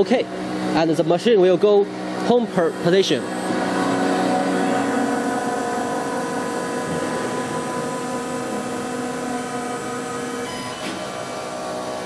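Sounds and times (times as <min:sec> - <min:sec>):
machine motors whining: 0:00.4 - 0:12.0.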